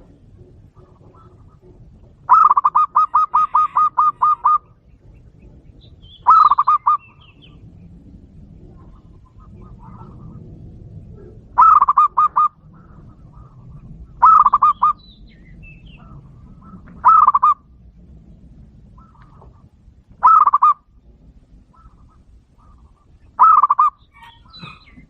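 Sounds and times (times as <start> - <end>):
dove cooing: 0.0 - 18.1, 18.8 - 25.0.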